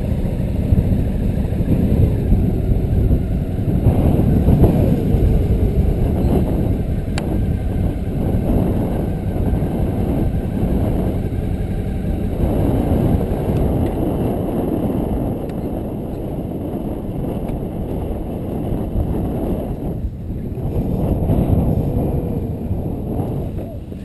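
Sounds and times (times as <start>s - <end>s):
motorcycle engine low rumble: 0.0s - 24.0s.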